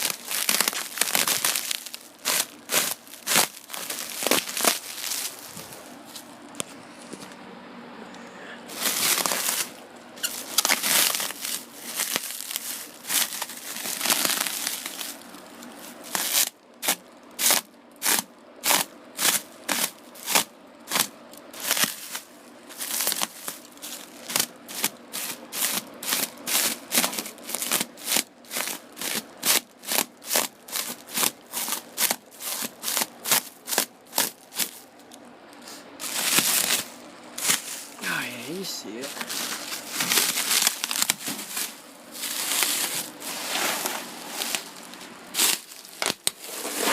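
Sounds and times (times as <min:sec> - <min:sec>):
wrapping crinkling and rustling: 0:00.0 - 0:07.4, 0:08.7 - 0:46.9.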